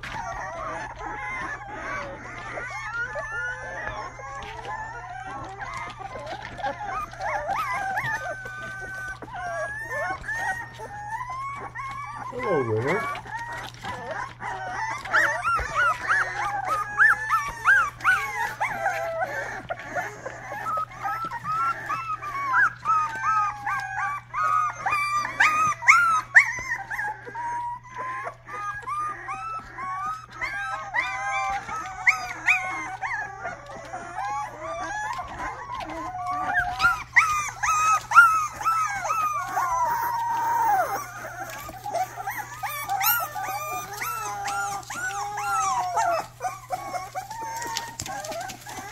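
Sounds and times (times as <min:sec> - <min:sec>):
puppies whining and squealing: 0:00.0 - 0:48.9.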